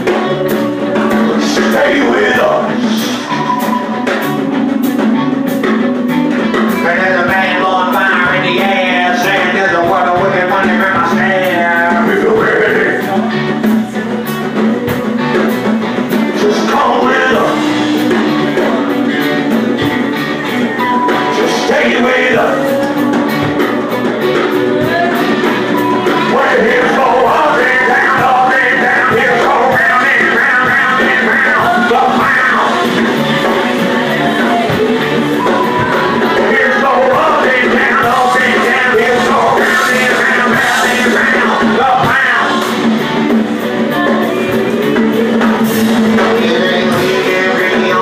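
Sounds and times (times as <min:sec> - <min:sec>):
person singing: 0:00.0 - 0:48.0
rock band playing guitar and drums: 0:00.0 - 0:48.0.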